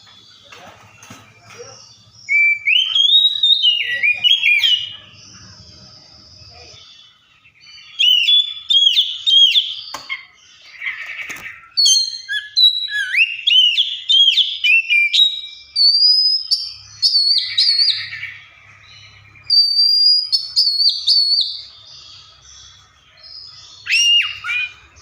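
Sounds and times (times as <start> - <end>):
bird harsh raspy chatter: 0.0 - 25.0
bird singing whistled song: 0.0 - 25.0.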